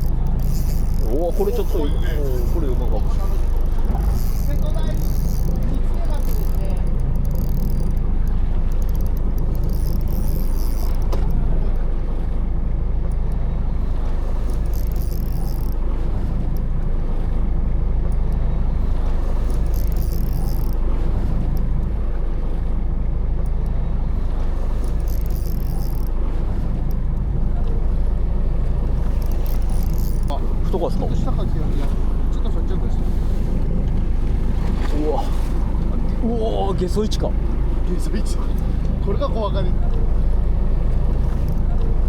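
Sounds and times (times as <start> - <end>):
boat engine drone: 0.0 - 42.0.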